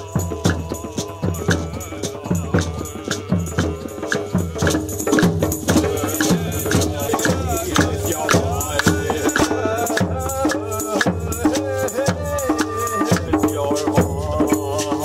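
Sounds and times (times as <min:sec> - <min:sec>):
clattering small percussion: 0:00.0 - 0:15.0
large drum and djembe beat: 0:00.0 - 0:15.0
person chanting: 0:00.0 - 0:15.0.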